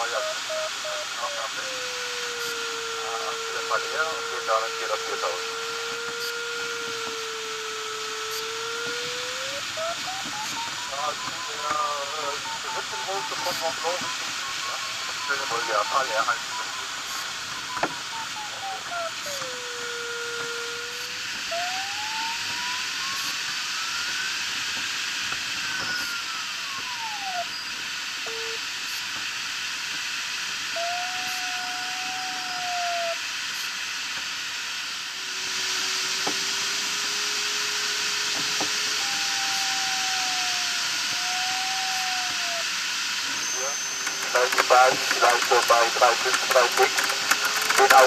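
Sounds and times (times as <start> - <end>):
electronic tone sliding in pitch: 1.6 - 24.3, 25.6 - 27.6, 30.8 - 33.2, 35.2 - 48.0.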